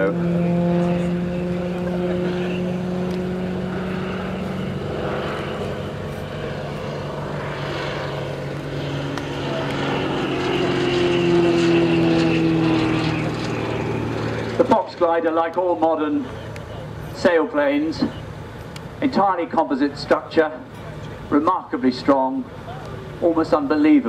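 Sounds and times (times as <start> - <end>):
propeller aircraft engine drone: 0.0 - 24.0.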